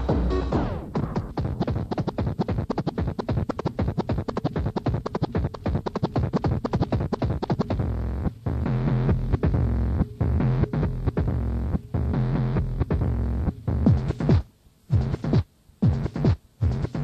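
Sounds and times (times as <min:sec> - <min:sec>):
techno music: 0:00.0 - 0:17.0.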